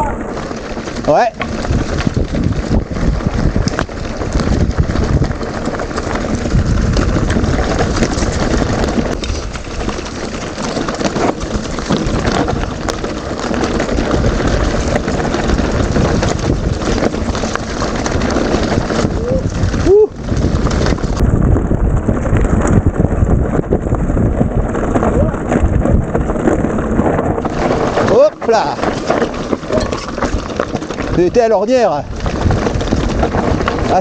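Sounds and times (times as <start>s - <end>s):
bike clicks and knocks: 0.0s - 21.4s, 22.0s - 34.0s
bike tyres on dirt trail: 0.0s - 34.0s
wind rushing over microphone: 0.0s - 34.0s.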